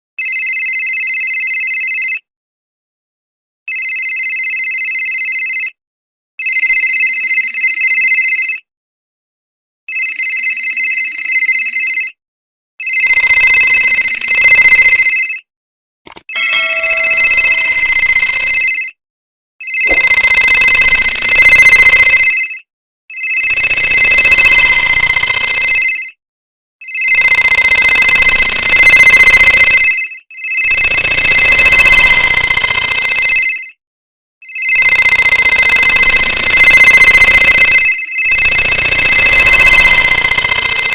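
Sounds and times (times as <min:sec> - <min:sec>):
cell phone ringtone: 0:00.2 - 0:02.3, 0:03.7 - 0:05.8, 0:06.4 - 0:08.7, 0:09.9 - 0:12.2, 0:12.8 - 0:15.5, 0:16.2 - 0:19.0, 0:19.6 - 0:26.2, 0:26.8 - 0:33.8, 0:34.4 - 0:40.9.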